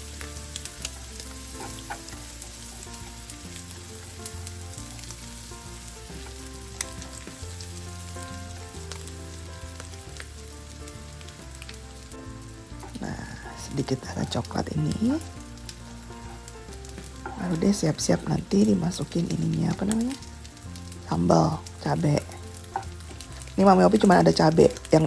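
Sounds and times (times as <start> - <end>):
fish sizzling in a pan: 0.0 - 25.0.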